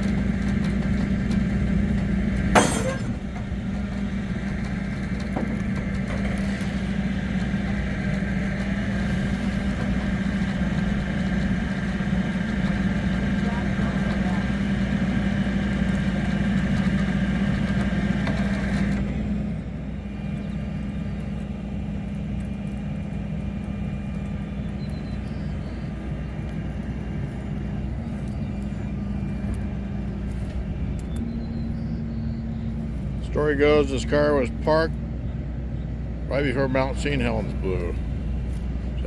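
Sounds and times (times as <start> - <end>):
vehicle engine low rumble: 0.0 - 39.0.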